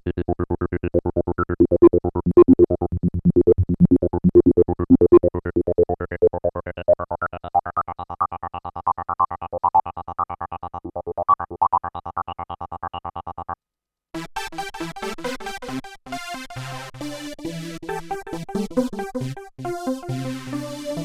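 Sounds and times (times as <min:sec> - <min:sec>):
synthesizer plucked note sequence: 0:00.0 - 0:13.6, 0:14.2 - 0:21.0.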